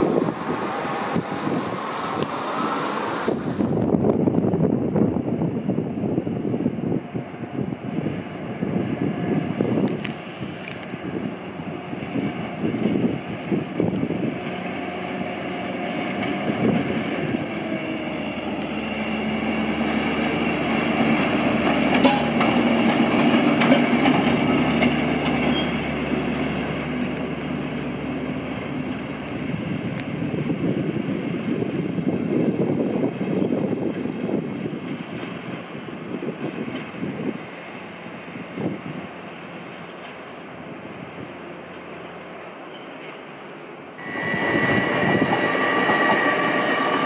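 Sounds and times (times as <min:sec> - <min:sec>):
diesel locomotive engine drone: 0:00.0 - 0:47.0.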